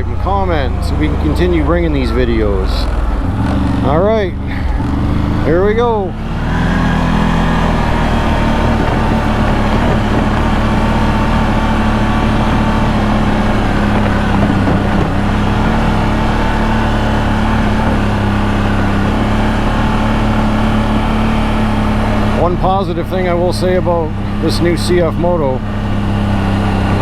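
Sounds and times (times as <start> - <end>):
atv engine pulling away: 0.0 - 27.0.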